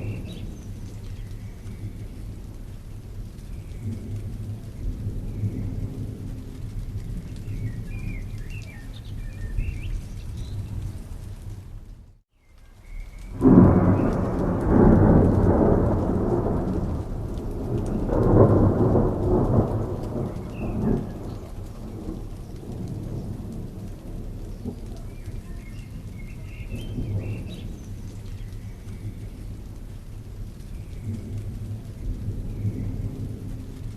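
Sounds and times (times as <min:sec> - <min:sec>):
thunder rumbling: 0:00.0 - 0:12.2, 0:12.8 - 0:33.9
steady rain: 0:00.0 - 0:33.9.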